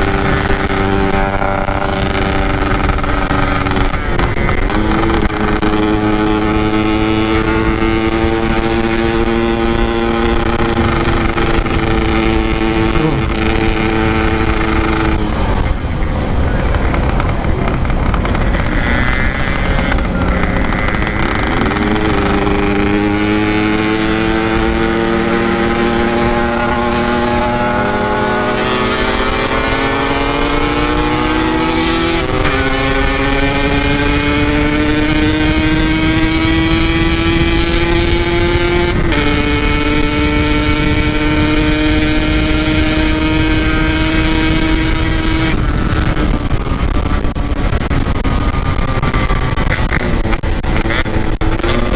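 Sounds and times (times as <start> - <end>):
two-stroke motorcycle engine: 0.0 - 51.9
wind rumble: 0.0 - 51.9.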